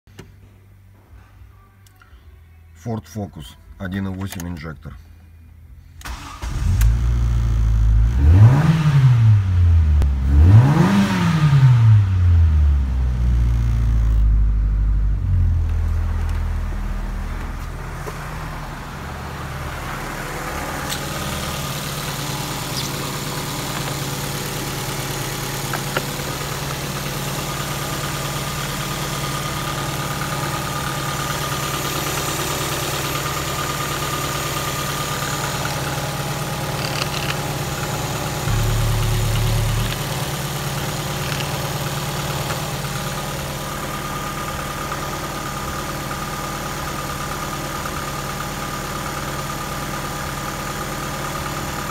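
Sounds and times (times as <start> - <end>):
car engine revving and idling: 6.1 - 51.9.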